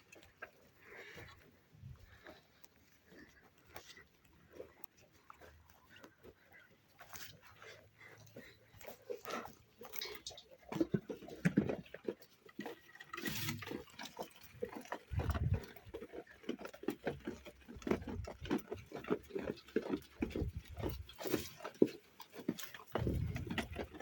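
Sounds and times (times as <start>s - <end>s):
sheep crunching wheat: 0.0s - 24.0s.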